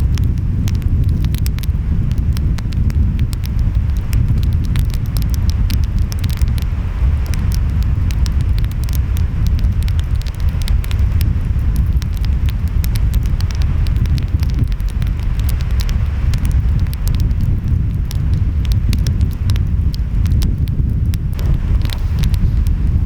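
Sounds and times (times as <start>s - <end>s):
wind: 0.0s - 23.0s
wood fire crackling: 0.0s - 23.0s.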